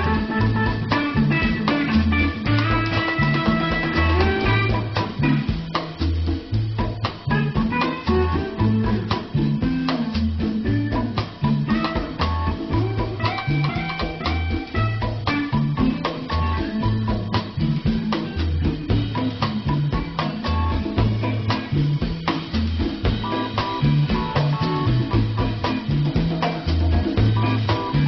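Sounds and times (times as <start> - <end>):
drum kit and bass music: 0.0 - 28.0.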